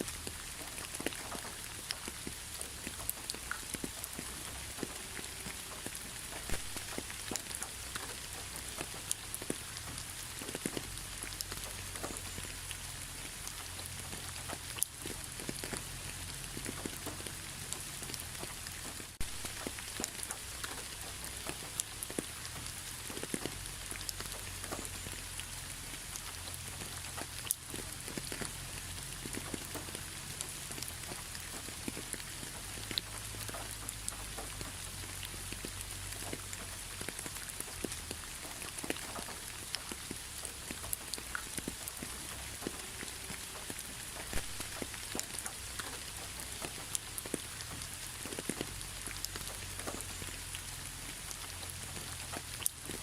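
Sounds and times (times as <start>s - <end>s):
rain hissing with ticking drops: 0.0s - 53.0s.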